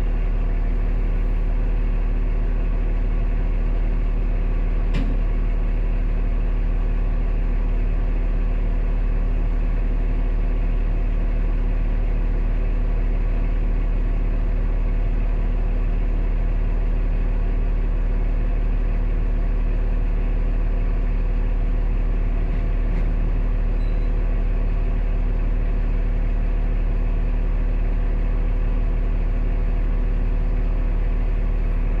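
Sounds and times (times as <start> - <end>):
large engine idling: 0.0 - 32.0.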